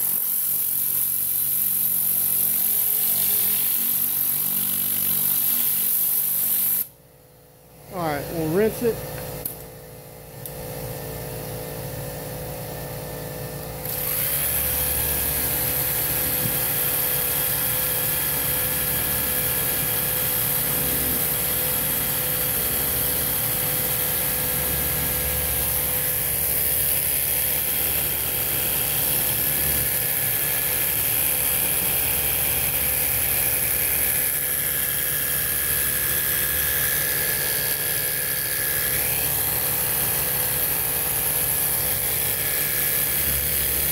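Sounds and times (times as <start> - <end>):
steady machine drone: 7.8 - 9.6, 10.5 - 43.9.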